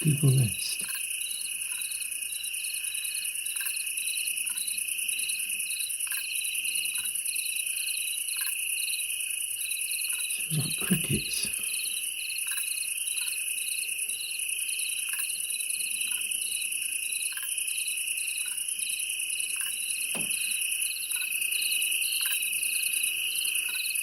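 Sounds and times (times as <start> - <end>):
crickets chirping: 0.0 - 24.0
high insect trill: 0.0 - 24.0.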